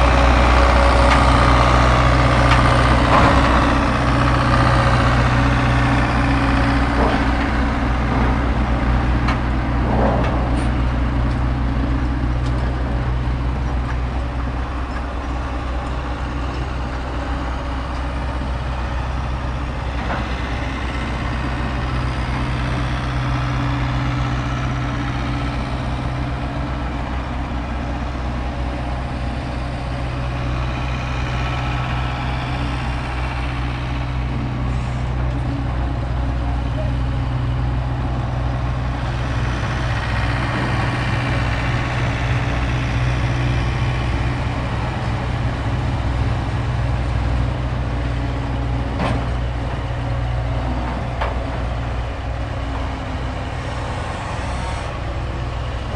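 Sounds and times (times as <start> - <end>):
heavy vehicle engine idling: 0.0 - 55.9.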